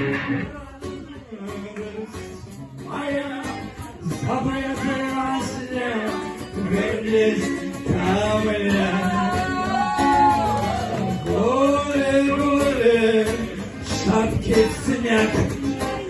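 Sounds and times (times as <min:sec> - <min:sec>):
guitar accompaniment: 0:00.0 - 0:16.0
man singing: 0:00.0 - 0:16.0.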